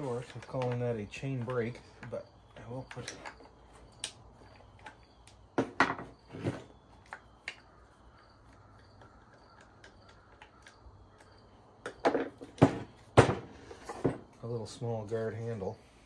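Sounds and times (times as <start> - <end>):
plastic parts clicking and knocking: 0.0 - 14.4.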